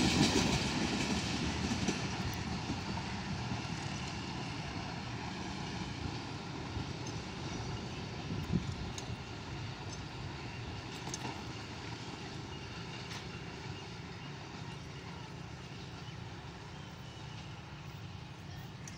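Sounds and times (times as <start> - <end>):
passenger train rumbling: 0.0 - 18.9.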